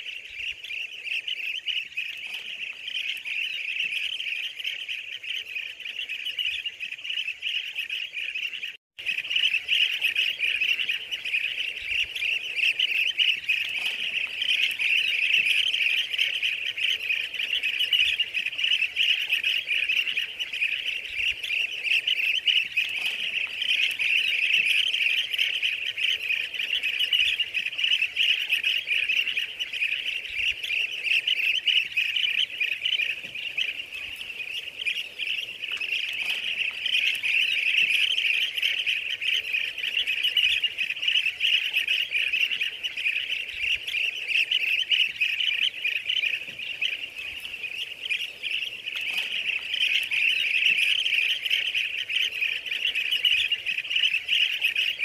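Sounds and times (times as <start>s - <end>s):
many birds chirping: 0.0s - 55.0s.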